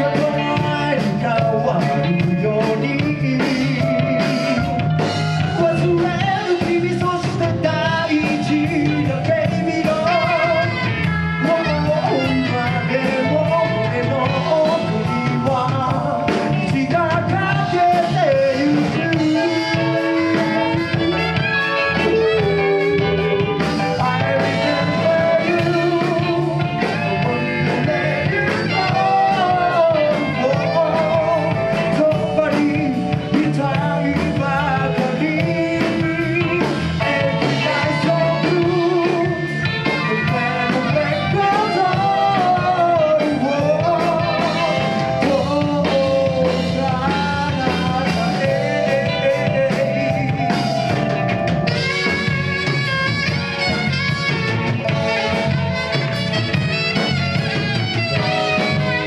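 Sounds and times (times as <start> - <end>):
live rock band playing: 0.0 - 59.0
person singing: 0.0 - 59.0
steady drum beat: 0.0 - 59.0.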